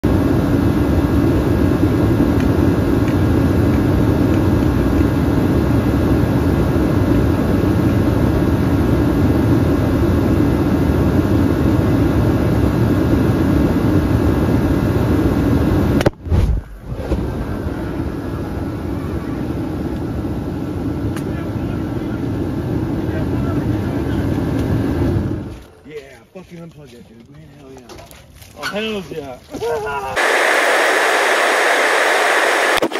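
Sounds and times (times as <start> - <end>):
heater blowing steadily: 0.0 - 28.0, 28.7 - 32.9.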